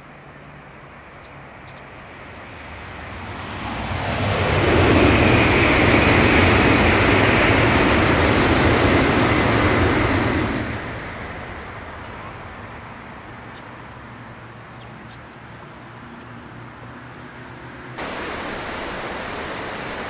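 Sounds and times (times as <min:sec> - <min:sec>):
high-speed train passing: 0:00.4 - 0:14.7, 0:17.8 - 0:20.0.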